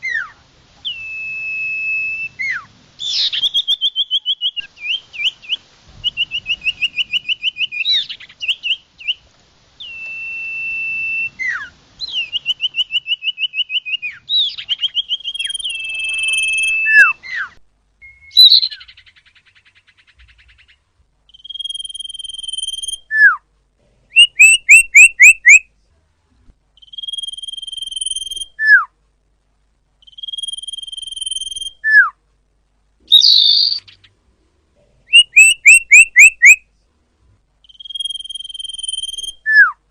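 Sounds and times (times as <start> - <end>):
bird whistles and trills: 0.0 - 9.2, 9.8 - 23.4, 24.1 - 25.6, 26.8 - 28.9, 30.0 - 32.1, 33.1 - 34.1, 35.1 - 36.6, 37.6 - 39.8.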